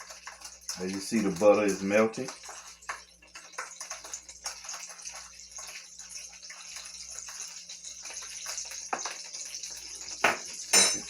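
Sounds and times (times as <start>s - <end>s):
butter sizzling in a pan: 0.0s - 11.0s.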